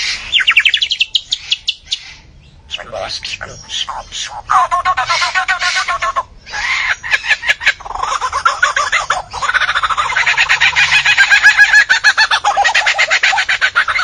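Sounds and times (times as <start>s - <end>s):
bird chattering: 0.0s - 14.0s.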